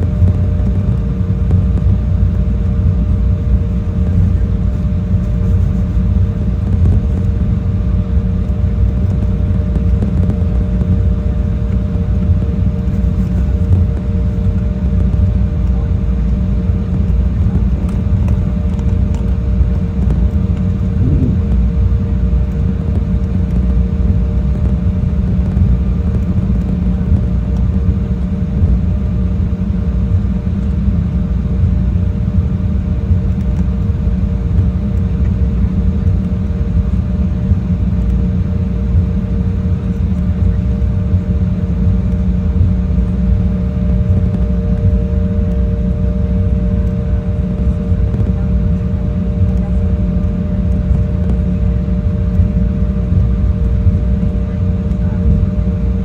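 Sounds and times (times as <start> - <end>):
steady two-tone hum: 0.0 - 33.0, 33.8 - 56.0
jet engines rumbling in cabin: 0.0 - 56.0.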